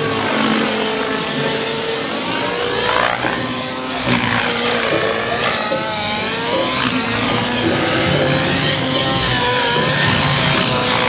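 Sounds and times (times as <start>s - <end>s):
model helicopter engine whine: 0.0s - 11.0s.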